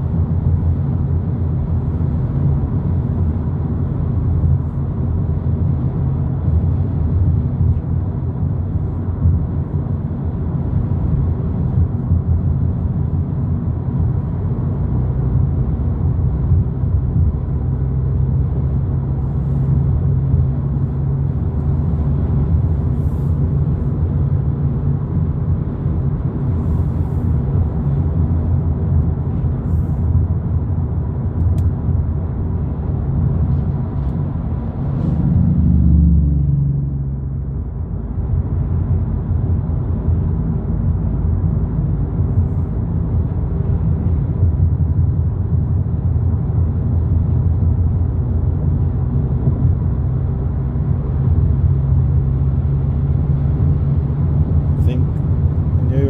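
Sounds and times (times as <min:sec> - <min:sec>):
road and engine rumble in car: 0:00.0 - 0:56.0.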